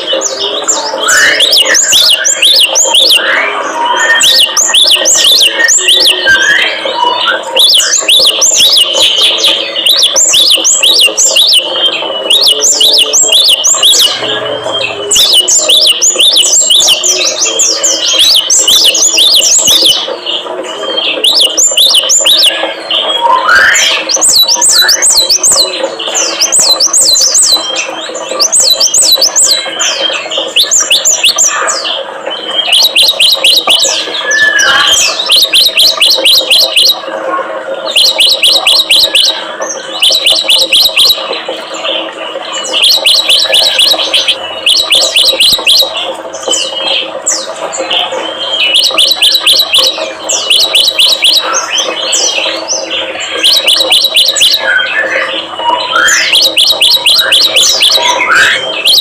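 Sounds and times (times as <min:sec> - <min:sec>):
songbird chattering trills: 0:00.0 - 0:37.1, 0:37.8 - 0:59.0.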